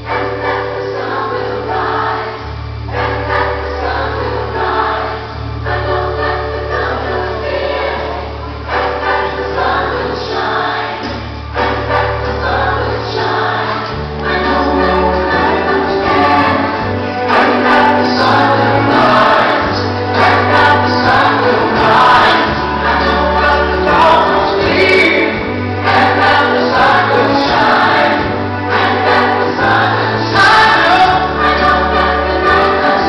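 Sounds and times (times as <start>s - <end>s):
choir singing with accompaniment: 0.0s - 33.0s.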